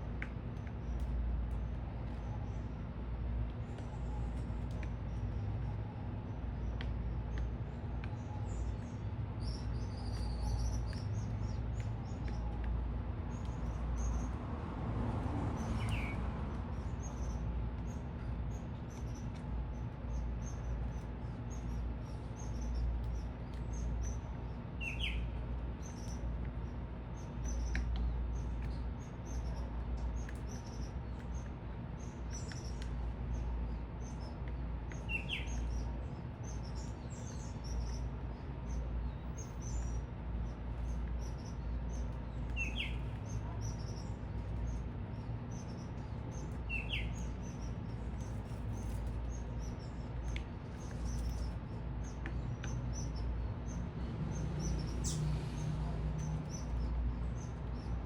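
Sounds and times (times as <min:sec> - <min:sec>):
low city rumble: 0:00.0 - 0:58.0
small birds chirping: 0:00.0 - 0:58.0.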